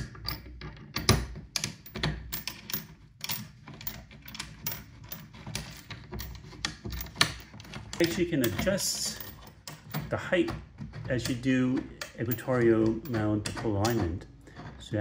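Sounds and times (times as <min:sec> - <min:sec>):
small clicks and knocks: 0:00.0 - 0:14.9.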